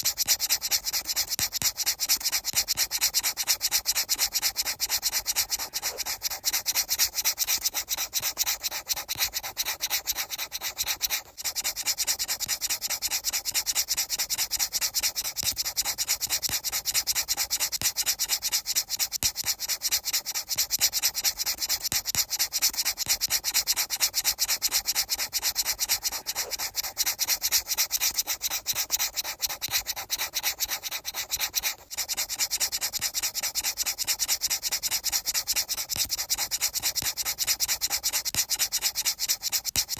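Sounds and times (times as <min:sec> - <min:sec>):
fast rubbing strokes: 0:00.0 - 0:39.9.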